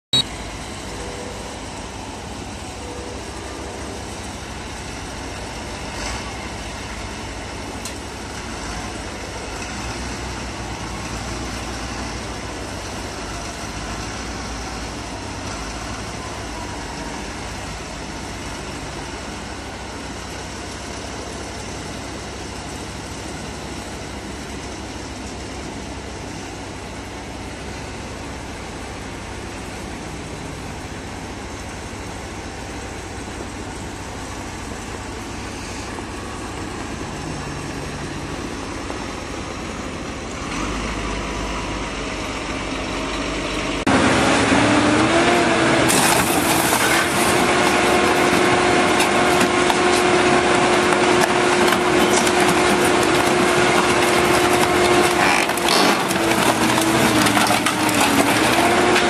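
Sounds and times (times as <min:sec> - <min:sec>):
diesel engine running: 0:00.1 - 0:59.0.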